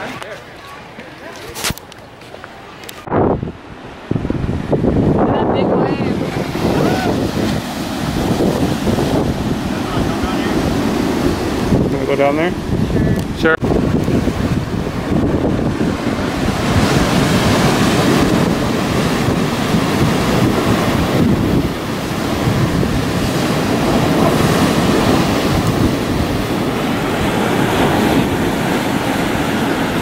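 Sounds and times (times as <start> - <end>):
wind buffeting microphone: 2.8 - 30.0
surf breaking on rocks: 4.1 - 30.0.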